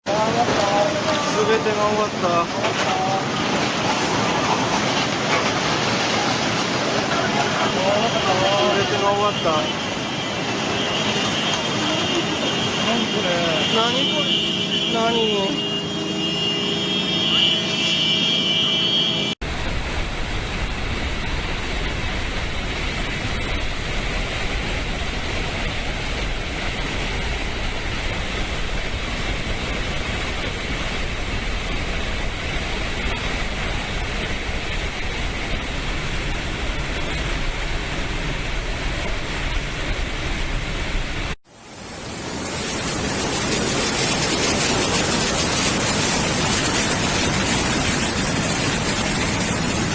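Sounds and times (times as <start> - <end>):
hissy water rush: 0.0 - 49.9
flood water rushing roar: 0.1 - 49.9.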